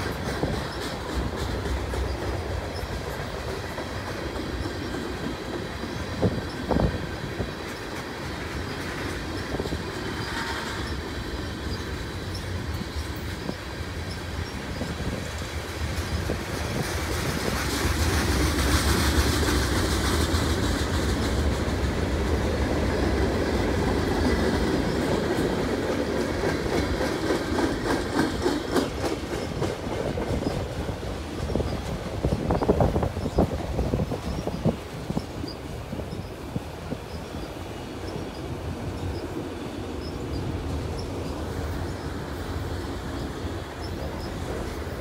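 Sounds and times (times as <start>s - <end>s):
train rumbling and clattering: 0.0s - 45.0s
wheels clacking over rail joints: 0.0s - 45.0s.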